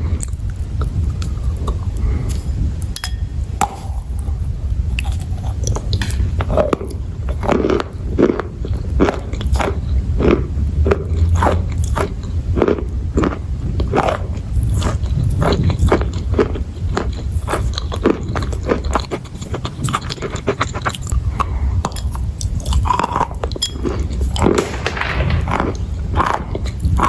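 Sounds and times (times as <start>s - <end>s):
crunchy chewing: 0.0s - 27.0s
low rumble: 0.0s - 27.0s.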